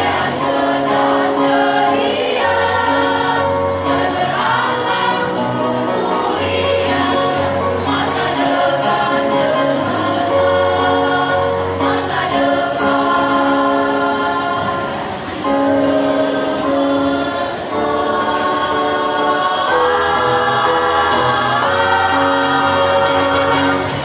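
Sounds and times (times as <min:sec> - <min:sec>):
choir singing in parts: 0:00.0 - 0:24.0.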